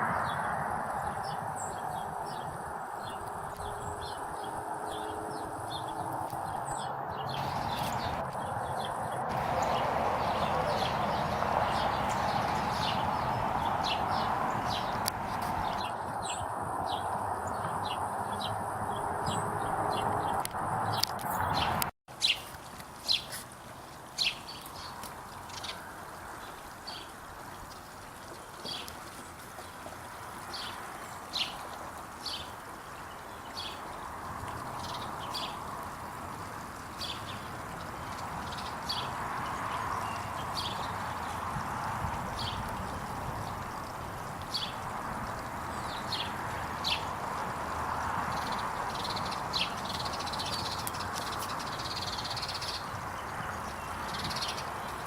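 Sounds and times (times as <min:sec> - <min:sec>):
birds chirping: 0:00.0 - 0:23.4, 0:24.1 - 0:36.2, 0:36.8 - 0:41.6, 0:42.2 - 0:55.0.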